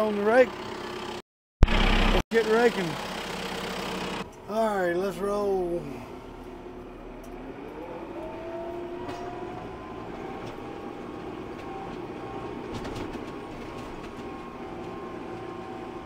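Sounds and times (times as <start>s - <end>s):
tractor engine whine: 0.0s - 16.0s.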